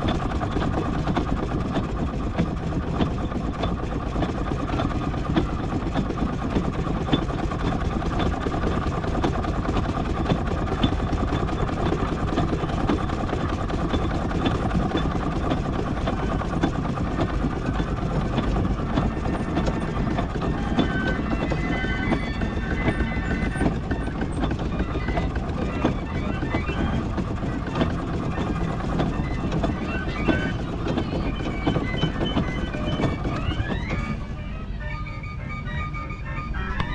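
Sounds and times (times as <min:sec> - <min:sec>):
miniature steam engine clattering: 0:00.0 - 0:34.5.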